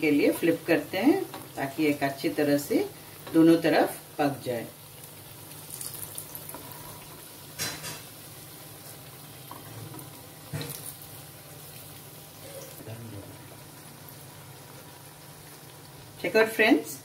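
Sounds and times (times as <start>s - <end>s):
fritters sizzling in oil: 0.0s - 17.0s.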